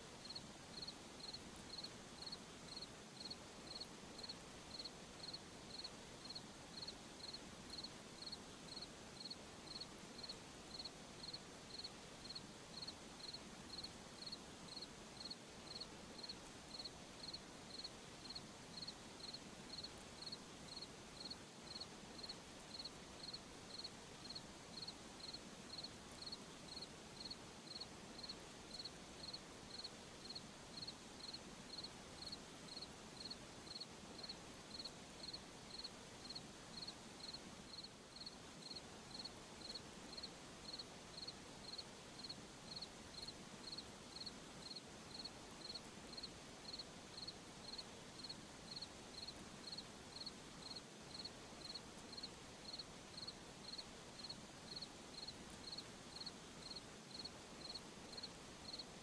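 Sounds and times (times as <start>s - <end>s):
faint background hiss: 0.0s - 59.0s
cricket chirping: 0.2s - 58.9s.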